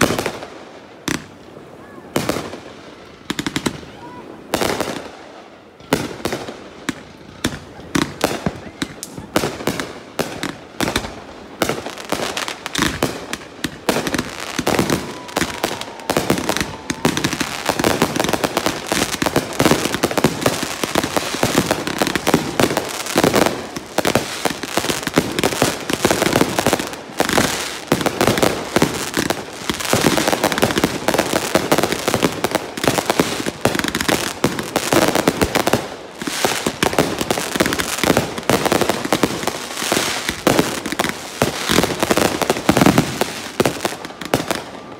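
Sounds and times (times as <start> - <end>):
fireworks bangs and crackling: 0.0 - 44.9.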